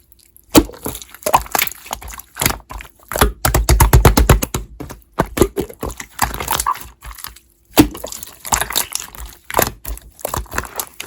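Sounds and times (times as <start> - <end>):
hands squishing slime: 0.0 - 11.0.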